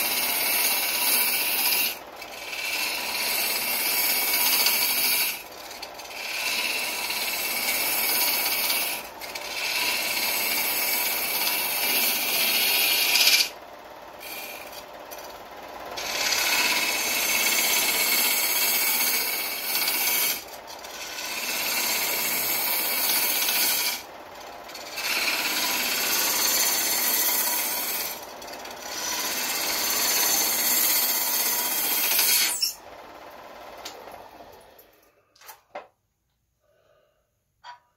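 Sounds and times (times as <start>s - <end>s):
wood lathe running: 0.0s - 35.0s.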